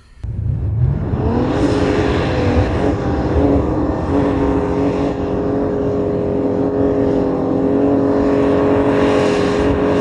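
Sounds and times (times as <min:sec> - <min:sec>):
off-road engine revving: 0:00.2 - 0:10.0.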